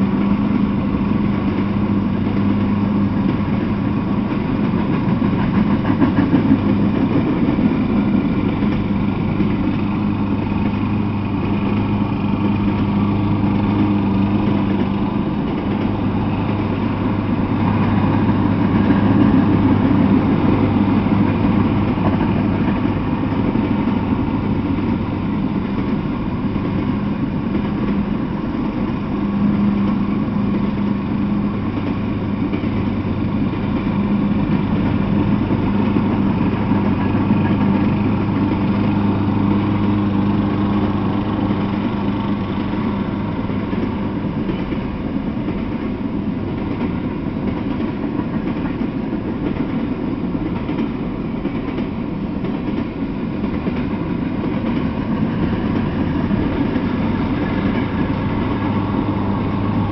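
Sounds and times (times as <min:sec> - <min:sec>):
low engine hum: 0:00.0 - 0:49.8, 0:50.5 - 0:59.9
train wheels rumbling on rails: 0:00.0 - 0:59.9.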